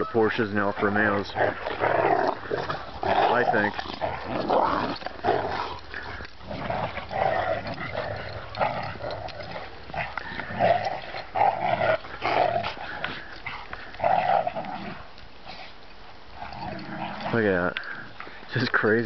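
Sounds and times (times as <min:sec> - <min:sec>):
dogs barking and yipping: 0:00.0 - 0:18.4
dogs growling: 0:00.6 - 0:18.4.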